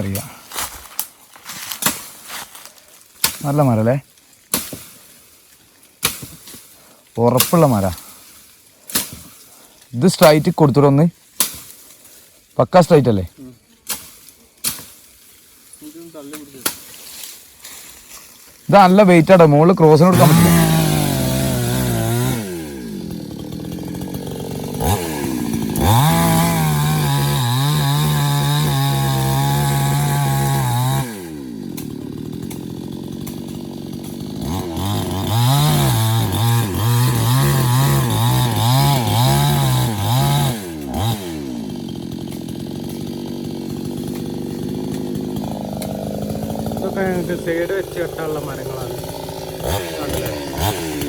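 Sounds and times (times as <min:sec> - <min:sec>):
chainsaw revving and cutting wood: 0:00.0 - 0:51.0.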